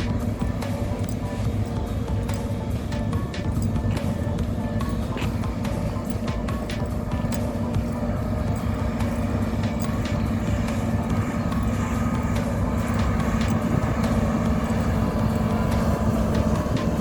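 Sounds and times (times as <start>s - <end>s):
faint ticks: 0.0s - 17.0s
heavy diesel machinery running: 0.0s - 17.0s.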